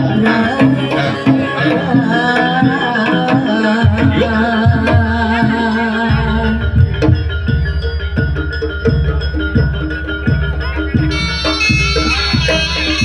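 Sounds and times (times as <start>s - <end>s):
gamelan instruments: 0.0s - 13.0s
wavering melodic line: 0.0s - 13.0s.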